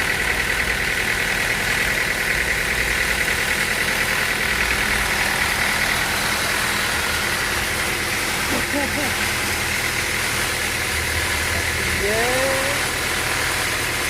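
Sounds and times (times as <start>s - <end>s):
sawmill motor hum: 0.0s - 14.0s.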